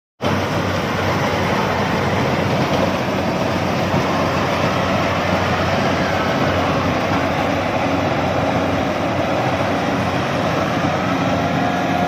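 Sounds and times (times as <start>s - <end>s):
combine harvester running: 0.2s - 12.0s.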